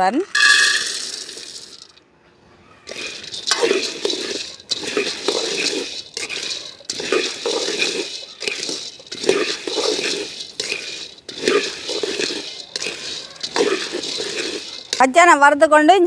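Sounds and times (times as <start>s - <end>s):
peanuts rattling in metal wok: 0.3s - 2.0s, 2.9s - 15.5s.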